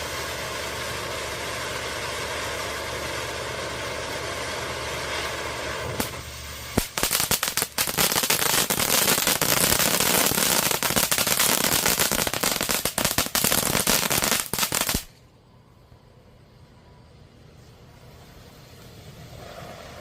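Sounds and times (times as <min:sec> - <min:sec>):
firework crackling: 0:00.0 - 0:15.3, 0:16.4 - 0:20.0
firework fountain spraying: 0:00.0 - 0:20.0.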